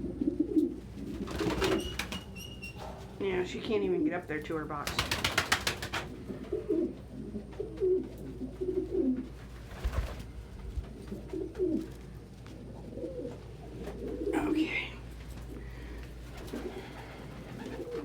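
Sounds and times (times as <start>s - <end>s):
pigeons cooing: 0.0s - 3.1s, 4.9s - 10.0s, 10.9s - 18.0s.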